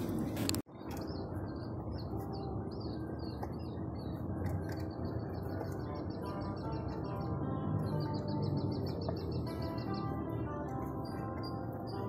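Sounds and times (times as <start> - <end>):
small birds chirping: 0.7 - 12.0.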